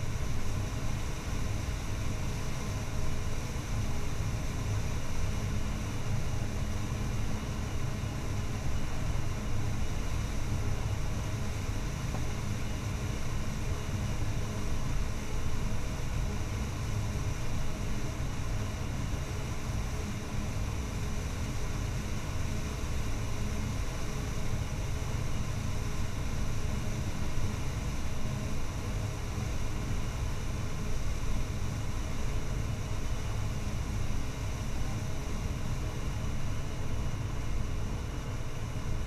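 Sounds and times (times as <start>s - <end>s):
forage harvester engine drone: 0.0s - 39.0s.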